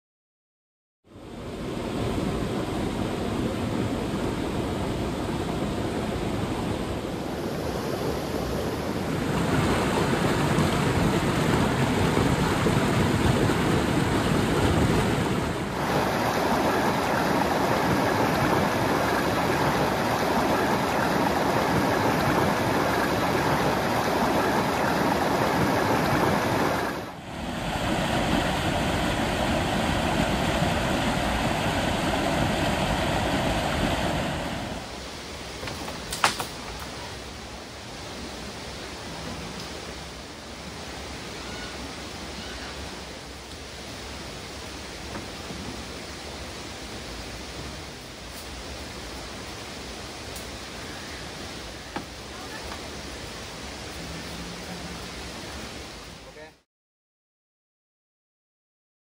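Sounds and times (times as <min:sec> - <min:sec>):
stream rushing over boulders: 0:01.6 - 0:56.6.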